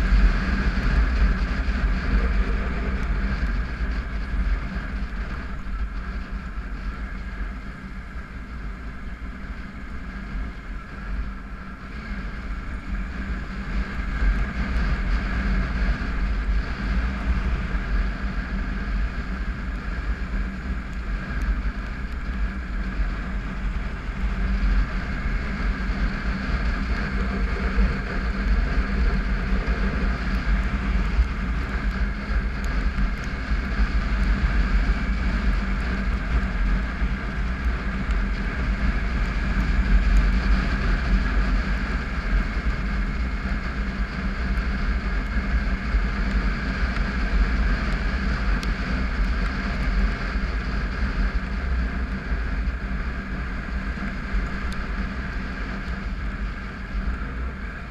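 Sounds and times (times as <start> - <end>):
motorcycle engine running: 0.0 - 57.9
wind rumble on microphone: 0.0 - 57.9.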